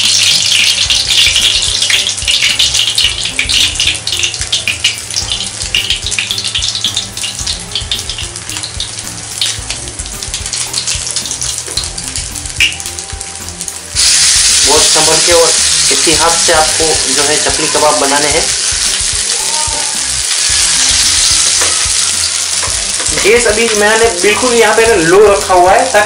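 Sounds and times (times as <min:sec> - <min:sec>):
kebab sizzling in oil: 0:00.0 - 0:26.0.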